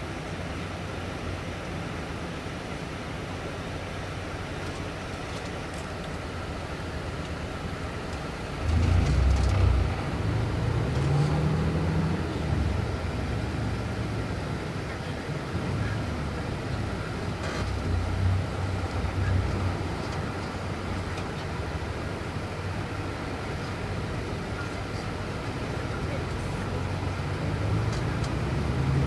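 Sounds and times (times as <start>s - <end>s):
diesel coach engine running: 0.0s - 29.0s.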